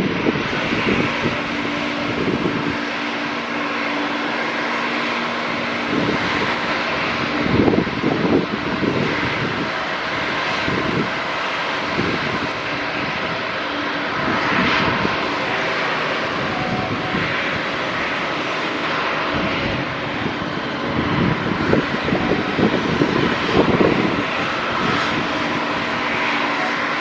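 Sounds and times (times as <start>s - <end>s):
jet engines whining: 0.0s - 27.0s.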